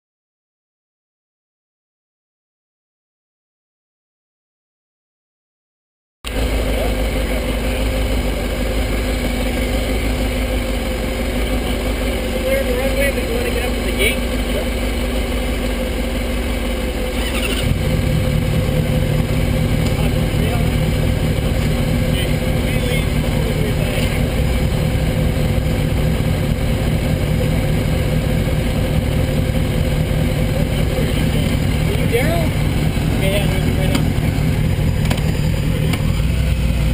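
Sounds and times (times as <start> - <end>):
motorcycle engine idling: 6.3 - 36.9.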